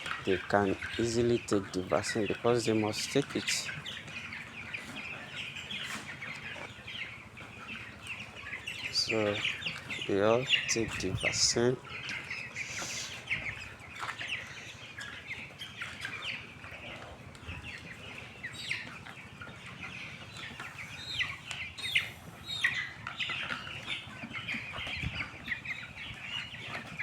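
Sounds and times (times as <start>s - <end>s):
chickens chirping and cheeping: 0.0s - 27.0s.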